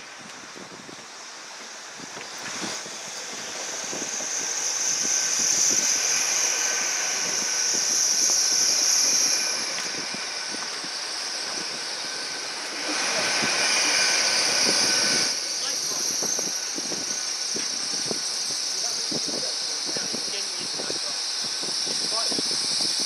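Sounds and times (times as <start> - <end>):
train passing with high whine: 0.0 - 23.0.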